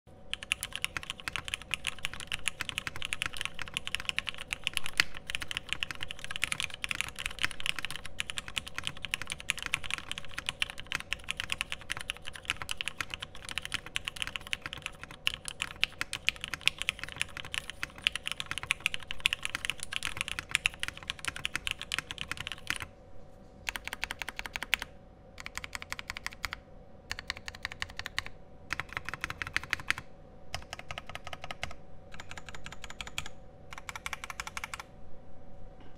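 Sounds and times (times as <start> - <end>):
mechanical keyboard typing: 0.3 - 22.9, 23.7 - 34.9.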